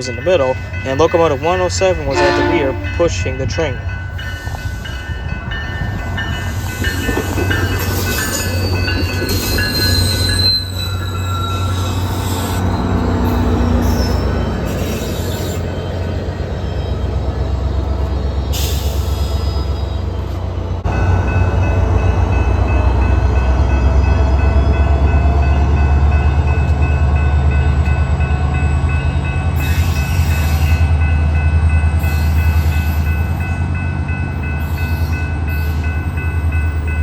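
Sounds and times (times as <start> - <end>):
diesel locomotive engine drone: 0.0 - 37.0
train wheel and car noise: 0.0 - 37.0.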